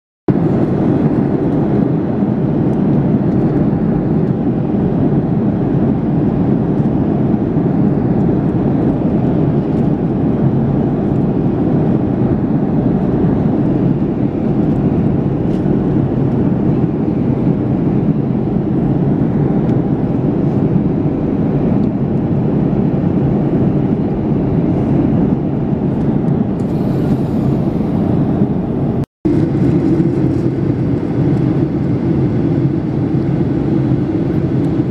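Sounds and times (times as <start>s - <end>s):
airplane cabin noise: 0.3s - 34.9s.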